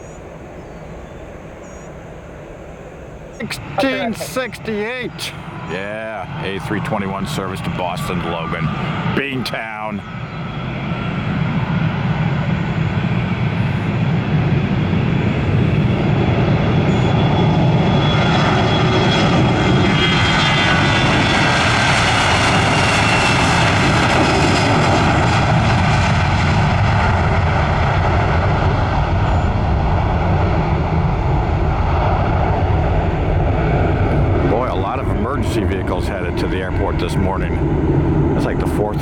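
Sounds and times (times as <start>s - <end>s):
high engine whine: 0.0s - 39.0s
jet airliner taking off: 0.0s - 39.0s.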